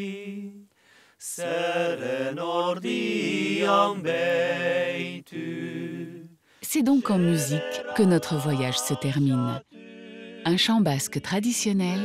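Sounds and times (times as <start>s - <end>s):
men singing a cappella in harmony: 0.0s - 11.4s.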